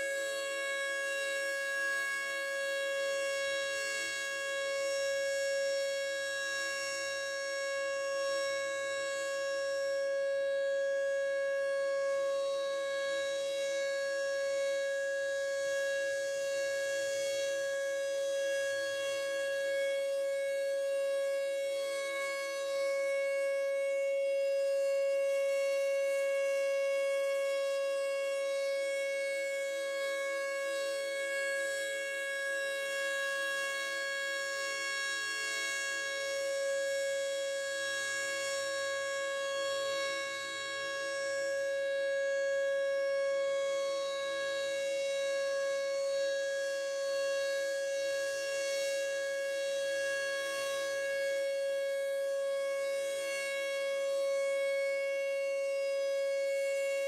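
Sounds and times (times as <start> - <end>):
siren steady tone: 0.0 - 57.0.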